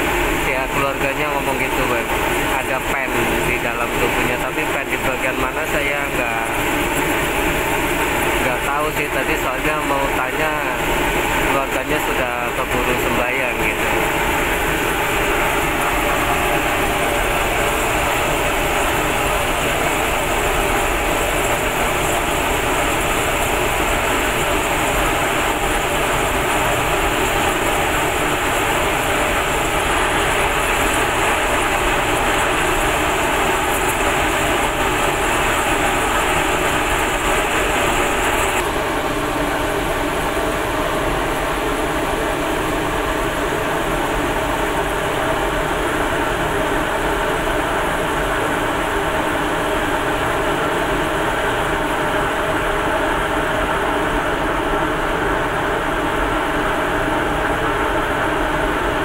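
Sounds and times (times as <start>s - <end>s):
furnace burner rushing: 0.0s - 59.0s.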